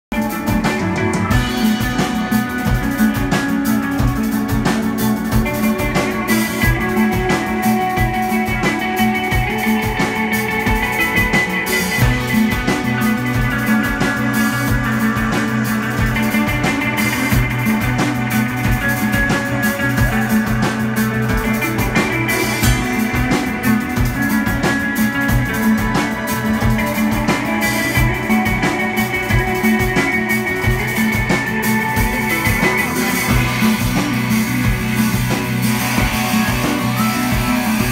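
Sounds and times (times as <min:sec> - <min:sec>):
drum kit: 0:00.1 - 0:37.9
electric guitars playing: 0:00.1 - 0:37.9.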